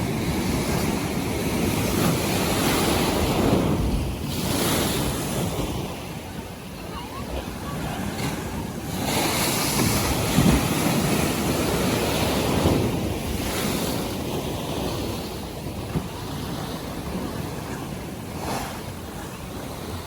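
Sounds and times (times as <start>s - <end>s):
waves breaking and washing: 0.0s - 20.0s
wind buffeting microphone: 0.0s - 20.0s.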